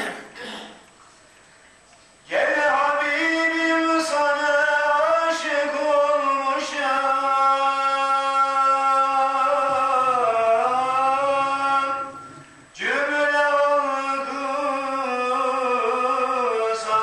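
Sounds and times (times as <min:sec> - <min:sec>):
man chanting: 0:02.3 - 0:17.0.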